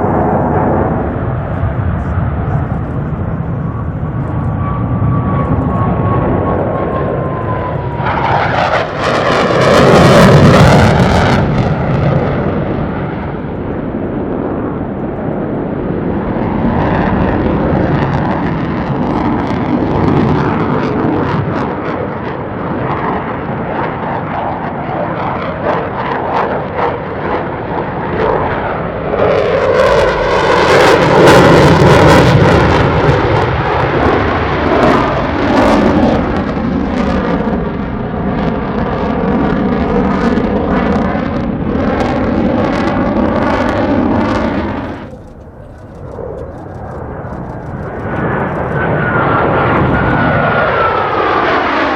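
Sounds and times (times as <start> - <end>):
jet engines roaring: 0.0 - 51.9.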